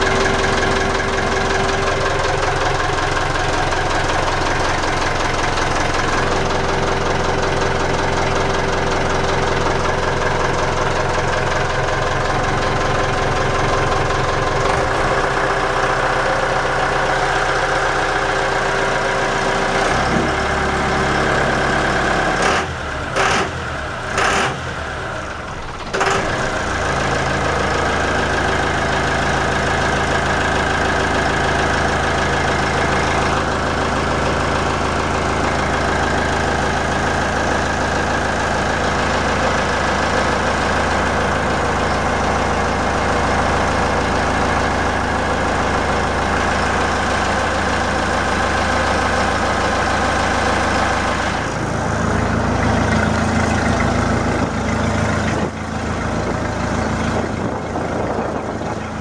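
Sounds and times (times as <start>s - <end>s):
diesel boat engine idling: 0.0s - 59.0s.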